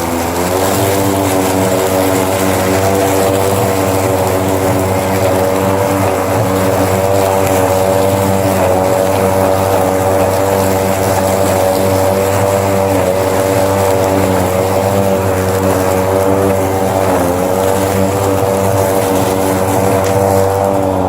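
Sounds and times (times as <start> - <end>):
electric lawn mower humming: 0.0 - 21.0.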